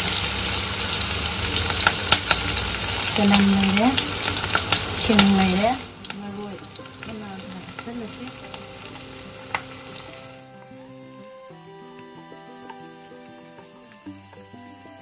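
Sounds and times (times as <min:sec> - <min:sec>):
oil sizzling with onions frying: 0:00.0 - 0:15.0.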